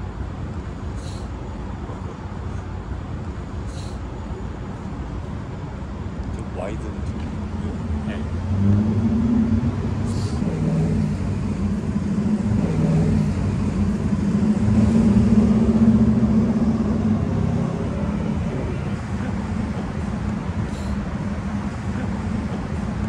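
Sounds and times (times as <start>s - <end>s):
vehicle engines running: 0.0s - 23.0s.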